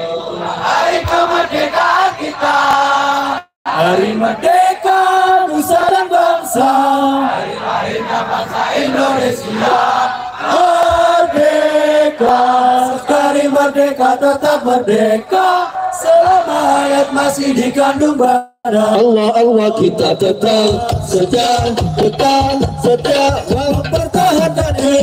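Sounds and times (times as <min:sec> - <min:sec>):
men chanting in unison: 0:00.0 - 0:25.0.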